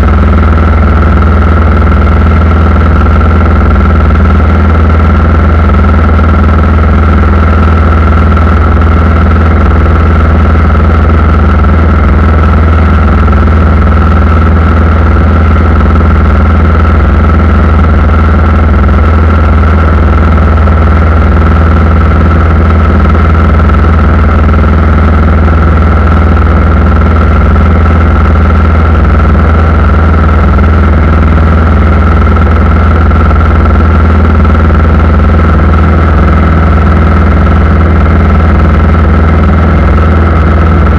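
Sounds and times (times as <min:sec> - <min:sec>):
aircraft engines humming: 0:00.0 - 0:40.9
high engine whine: 0:00.0 - 0:40.9.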